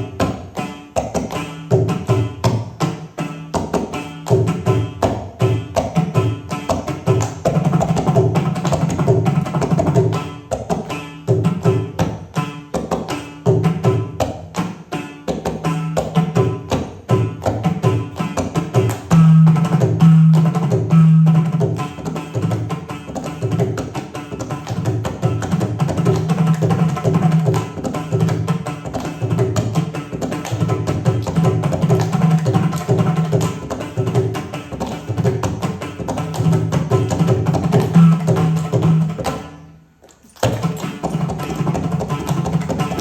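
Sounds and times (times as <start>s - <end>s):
tuned hand drums playing fast rhythm: 0.0s - 39.6s, 40.4s - 43.0s.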